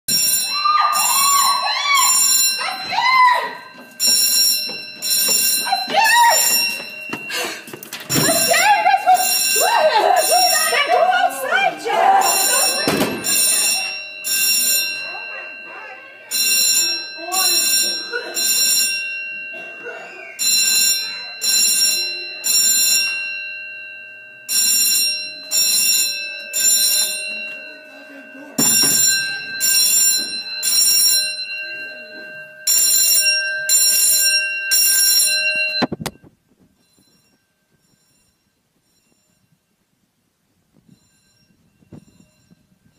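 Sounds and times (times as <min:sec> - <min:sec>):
fire alarm blasts: 0:00.1 - 0:36.1.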